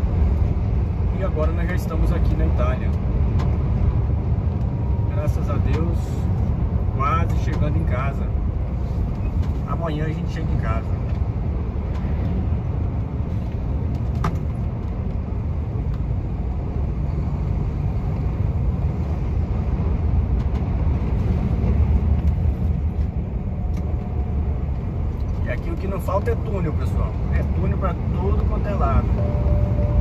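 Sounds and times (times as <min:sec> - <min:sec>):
lorry engine and tyres droning: 0:00.0 - 0:30.0.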